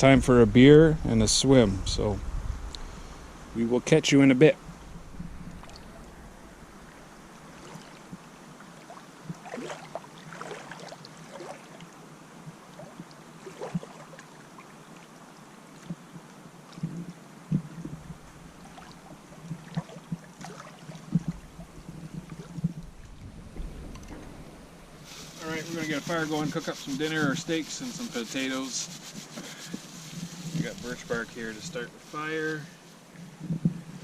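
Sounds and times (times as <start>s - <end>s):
water lapping and splashing: 4.6s - 33.4s.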